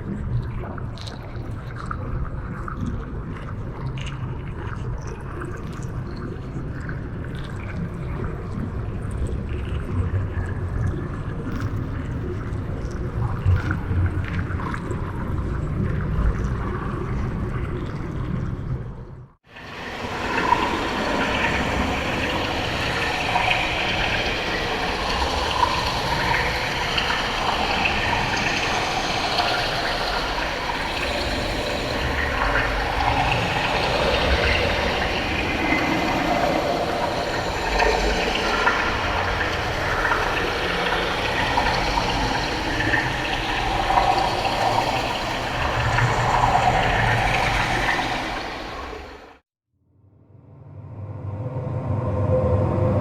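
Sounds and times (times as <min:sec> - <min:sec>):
underwater rumbling wash: 0:00.0 - 0:49.4
water gurgles: 0:00.0 - 0:49.4.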